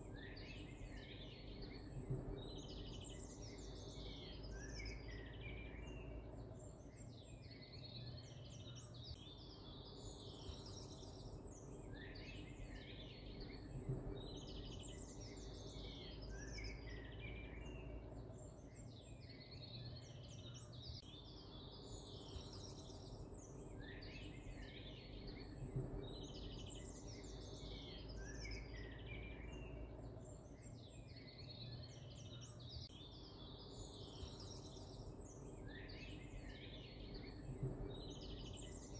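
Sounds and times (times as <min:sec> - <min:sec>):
birds chirping: 0:00.0 - 0:38.9
low steady hum: 0:00.0 - 0:38.9.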